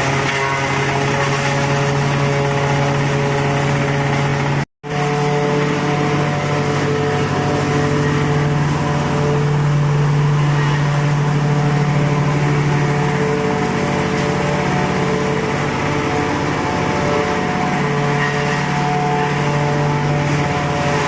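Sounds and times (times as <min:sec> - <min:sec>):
wood chipper grinding: 0:00.0 - 0:21.0.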